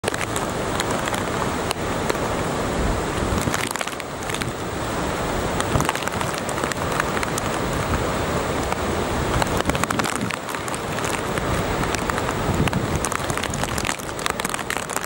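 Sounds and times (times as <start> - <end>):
sharp crackles: 0.0 - 2.3, 3.2 - 4.6, 5.5 - 8.0, 8.6 - 15.0
floodwater rushing: 0.0 - 15.0
wind and rain rushing: 0.0 - 15.0.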